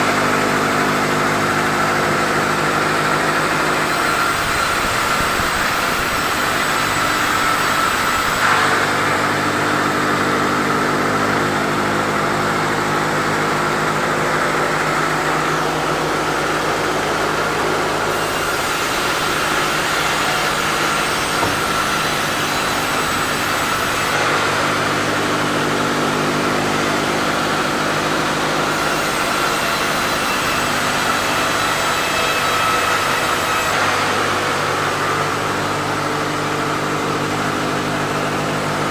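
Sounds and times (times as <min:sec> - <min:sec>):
sawmill saw sawing wood: 0:00.0 - 0:38.9.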